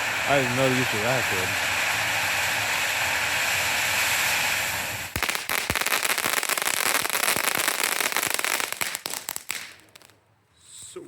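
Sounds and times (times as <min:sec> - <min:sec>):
firework crackling: 0:00.0 - 0:10.8
fountain firework hissing: 0:00.0 - 0:10.8
firework pops: 0:00.6 - 0:10.2.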